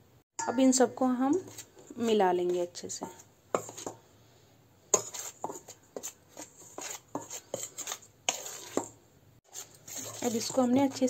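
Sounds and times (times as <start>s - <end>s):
metal spoon scraping steel bowl: 0.4s - 4.0s, 5.0s - 11.0s.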